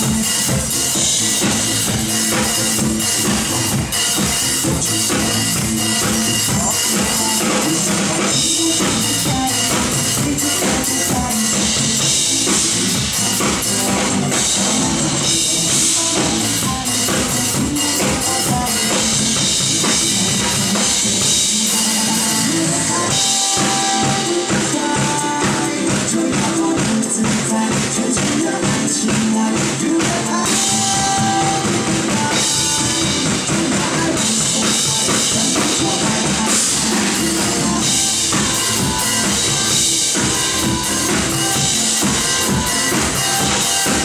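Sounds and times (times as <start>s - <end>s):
drum kit pop beat: 0.0s - 44.0s
recorded backing track: 0.0s - 44.0s.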